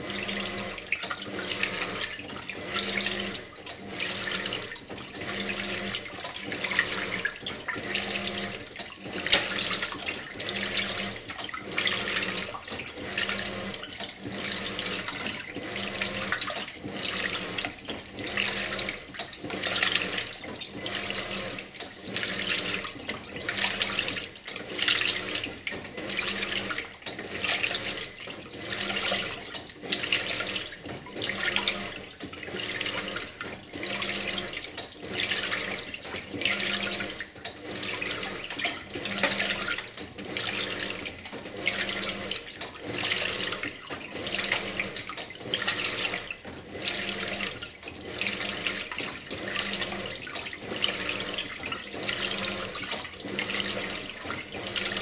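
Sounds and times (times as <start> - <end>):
washer water sloshing: 0.0 - 55.0.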